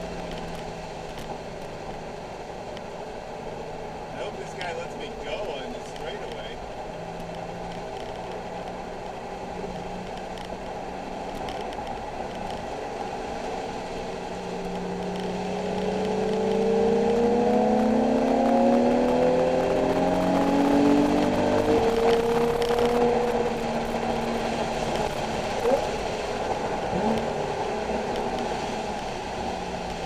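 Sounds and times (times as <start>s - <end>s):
car engine accelerating: 3.6s - 30.0s.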